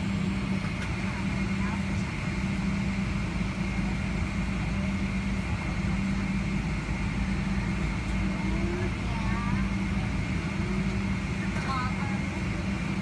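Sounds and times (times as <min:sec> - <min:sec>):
aircraft cabin drone: 0:00.0 - 0:13.0.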